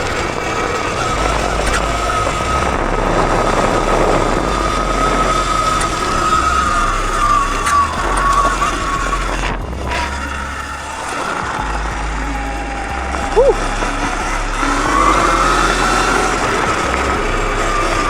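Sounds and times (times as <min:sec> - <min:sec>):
dirt bike engine running: 0:00.0 - 0:18.0
wind buffeting microphone: 0:00.0 - 0:18.0.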